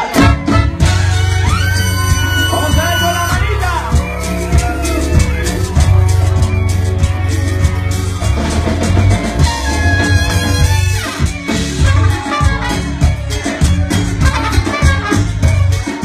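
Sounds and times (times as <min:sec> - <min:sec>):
live latin band playing: 0:00.0 - 0:16.0.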